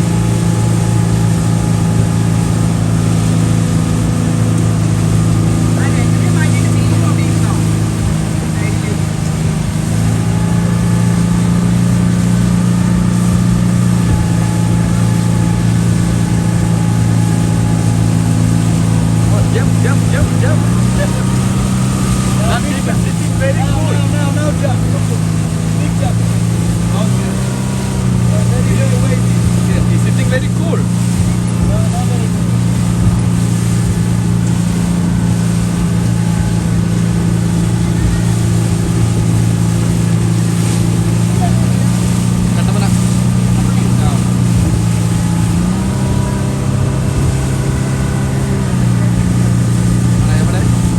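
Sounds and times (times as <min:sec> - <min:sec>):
speedboat engine running: 0:00.0 - 0:50.9.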